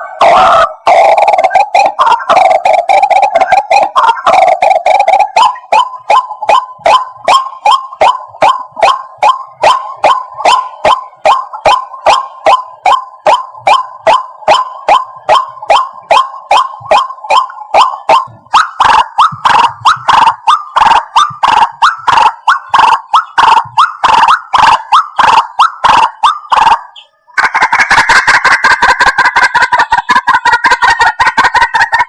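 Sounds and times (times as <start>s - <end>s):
waterhen croaking calls: 0.0s - 32.0s.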